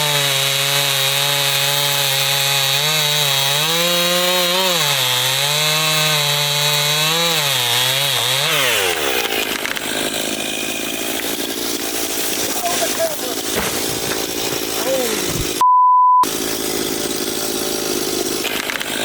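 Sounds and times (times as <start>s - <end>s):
chainsaw cutting wood: 0.0s - 15.6s, 16.2s - 19.0s.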